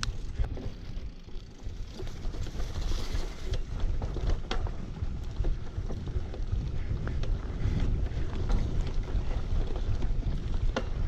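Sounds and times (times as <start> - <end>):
bicycle tyres hissing on dirt: 0.0 - 11.0
bike rattling and clicking: 0.0 - 11.0
wind buffeting microphone: 0.0 - 11.0.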